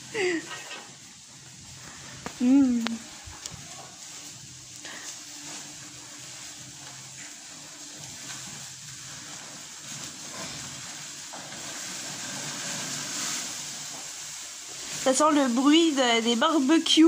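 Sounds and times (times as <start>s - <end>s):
food sizzling on a grill: 0.0s - 17.0s.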